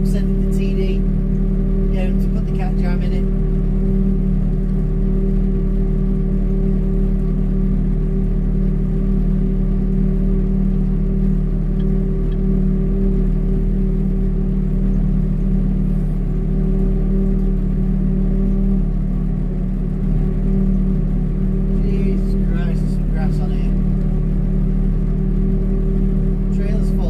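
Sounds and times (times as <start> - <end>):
tractor engine droning: 0.0 - 27.0.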